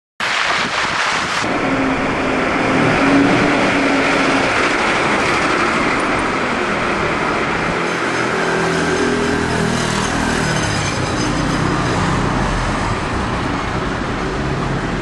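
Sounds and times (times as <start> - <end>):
rushing noise: 0.2 - 15.0.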